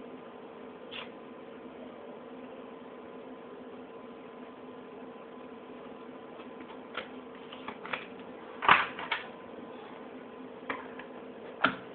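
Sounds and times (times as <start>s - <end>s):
steady hum: 0.0s - 11.9s.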